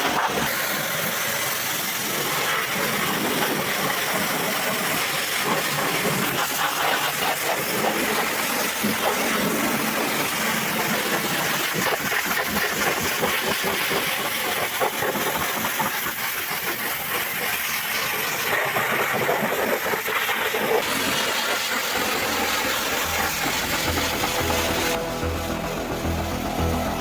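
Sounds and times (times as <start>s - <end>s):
water jet spraying onto engine: 0.0s - 27.0s.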